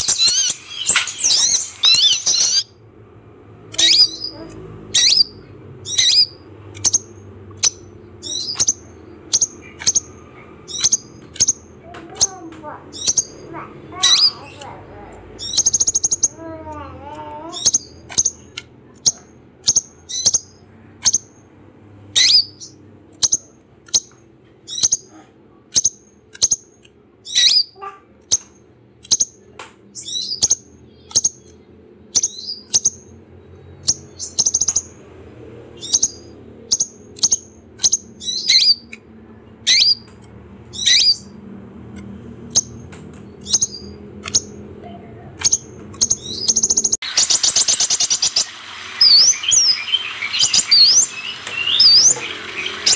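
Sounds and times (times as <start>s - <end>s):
bird high-pitched chirps: 0.0s - 2.8s, 3.6s - 35.0s, 35.7s - 41.4s, 42.5s - 52.9s.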